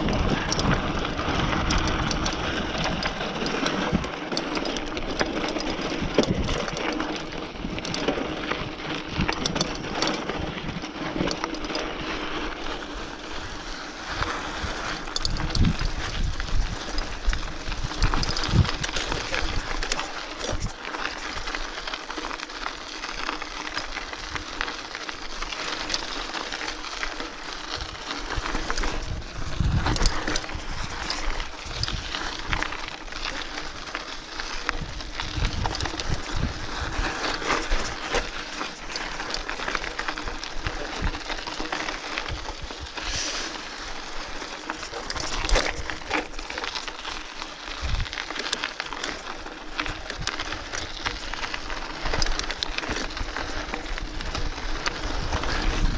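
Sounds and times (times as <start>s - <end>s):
bike rattling and knocking: 0.0s - 55.9s
bike tyres rolling over dirt: 0.0s - 55.9s.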